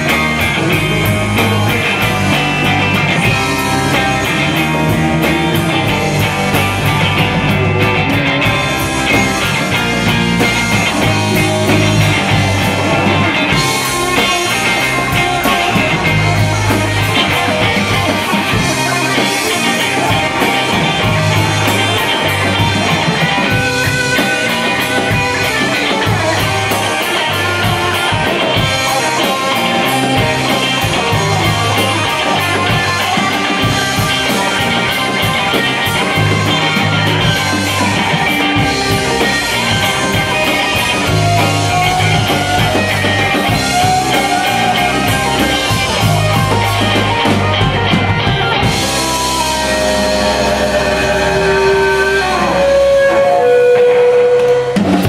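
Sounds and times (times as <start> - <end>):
drum kit: 0.0 - 55.0
electric bass: 0.0 - 55.0
electric guitars: 0.0 - 55.0.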